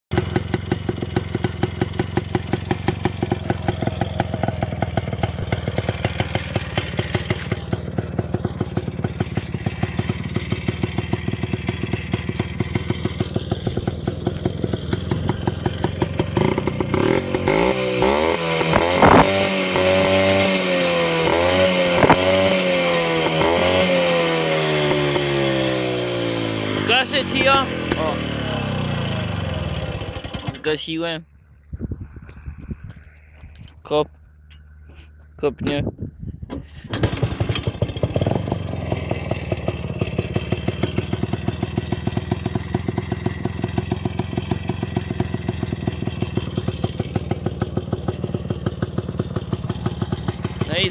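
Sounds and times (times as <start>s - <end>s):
two-stroke engine idling and revving: 0.1s - 35.8s, 36.4s - 50.9s.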